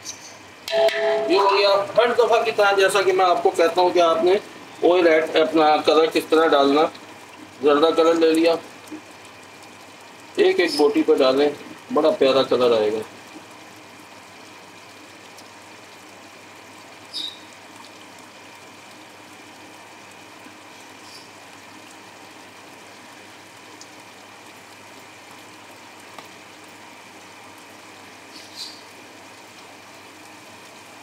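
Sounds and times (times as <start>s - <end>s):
pot simmering with soft hiss: 0.0s - 31.0s.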